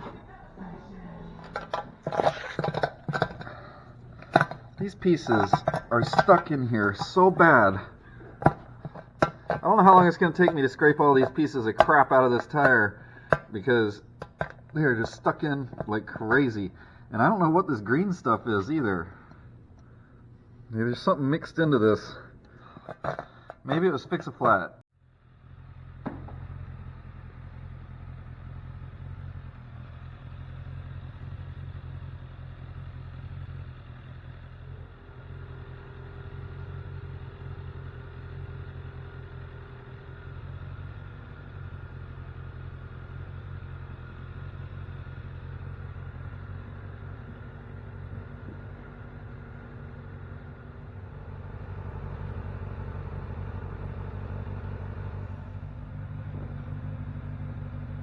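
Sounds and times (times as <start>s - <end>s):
motorcycle engine idling: 0.0s - 21.1s, 21.8s - 58.0s.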